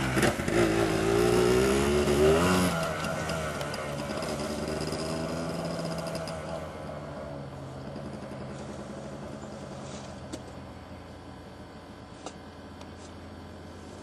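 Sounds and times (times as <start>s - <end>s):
quad engine riding off: 0.0s - 12.0s.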